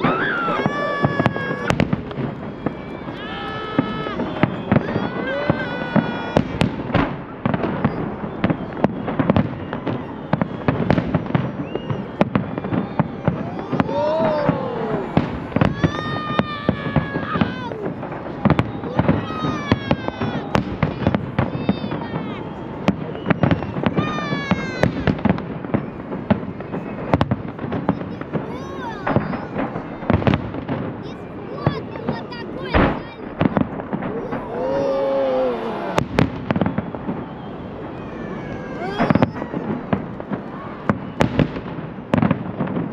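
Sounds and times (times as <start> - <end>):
fireworks bangs: 0.0 - 42.9
onlookers' voices: 0.0 - 42.9.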